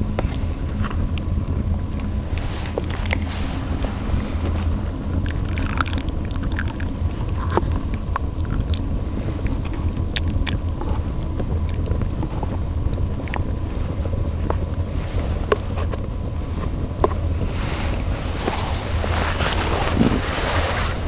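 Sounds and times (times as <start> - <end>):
small crackles and ticks: 0.0 - 21.0
wind buffeting microphone: 0.0 - 21.0.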